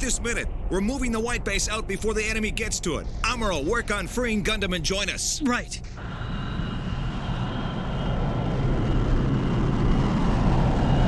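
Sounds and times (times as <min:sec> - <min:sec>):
faint high whine: 0:00.0 - 0:11.0
spaceship engine rumble: 0:00.0 - 0:11.0.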